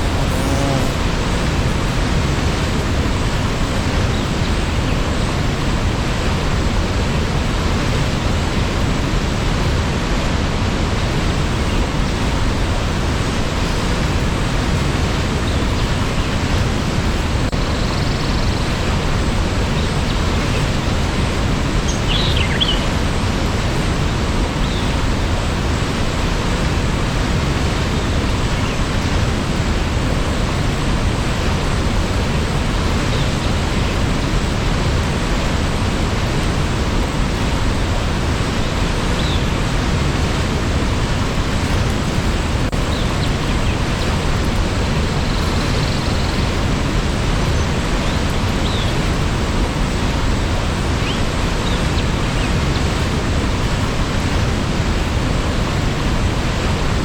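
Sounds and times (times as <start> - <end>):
waterfall rushing: 0.0 - 17.6, 22.9 - 45.4, 46.4 - 57.0.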